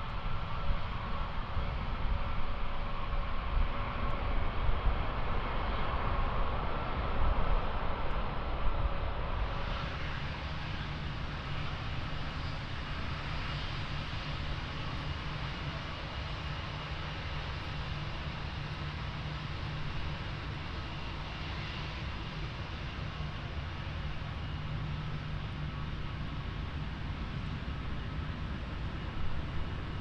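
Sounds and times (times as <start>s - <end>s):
jet airliner engine noise: 0.0s - 30.0s.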